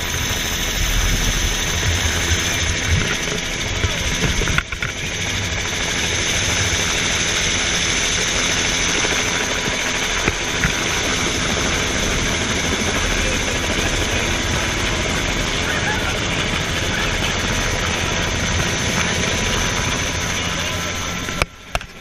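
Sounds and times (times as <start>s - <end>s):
helicopter rotor rumble: 0.0s - 22.0s
helicopter turbine whine: 0.0s - 22.0s.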